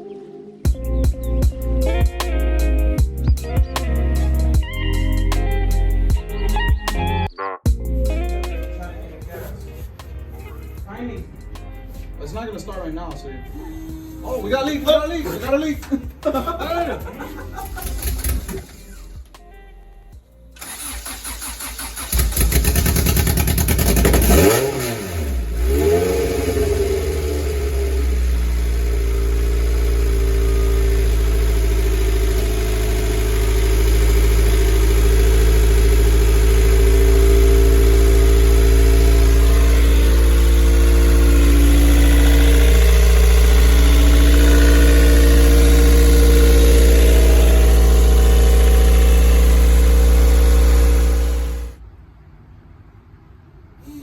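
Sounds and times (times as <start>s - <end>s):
car engine starting and idling: 8.0s - 52.0s.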